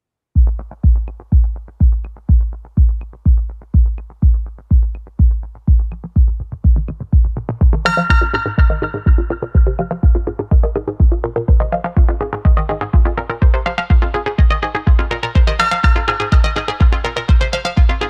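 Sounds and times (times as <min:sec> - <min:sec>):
bass line: 0:00.4 - 0:18.0
drum machine kick: 0:00.4 - 0:18.0
synth chords: 0:00.4 - 0:18.0.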